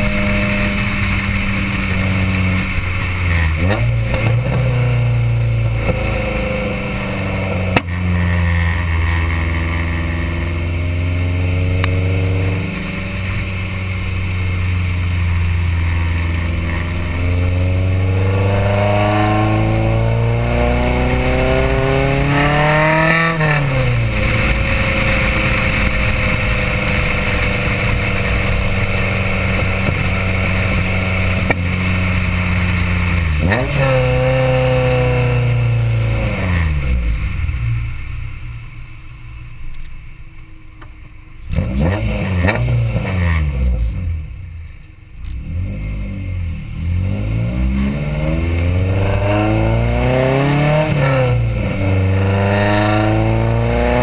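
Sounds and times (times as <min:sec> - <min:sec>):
car engine revving through exhaust: 0:00.0 - 0:38.7, 0:41.4 - 0:54.0.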